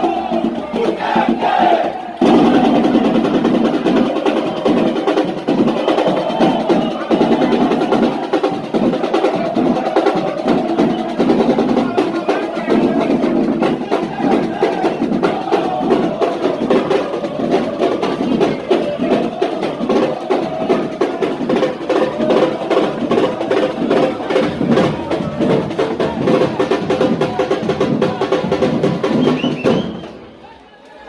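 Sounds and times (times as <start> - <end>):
drum band playing fast beat: 0.0 - 30.2
crowd chanting: 0.0 - 31.0.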